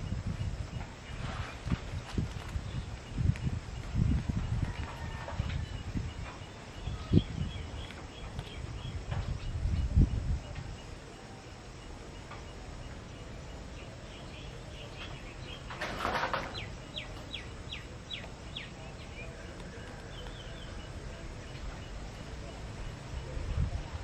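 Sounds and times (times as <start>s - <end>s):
faint bird chirps: 2.4s - 24.0s.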